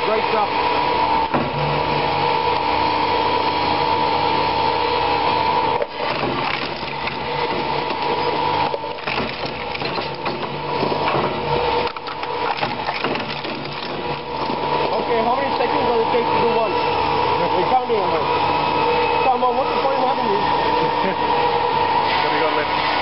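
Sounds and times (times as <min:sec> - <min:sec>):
shredder cutters crunching hard drives: 0:00.0 - 0:22.6
shredder drive whine: 0:00.0 - 0:23.0.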